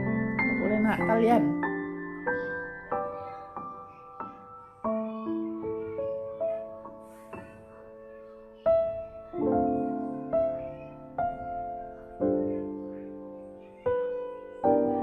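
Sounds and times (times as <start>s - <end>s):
slow gentle piano tune: 0.0s - 15.0s.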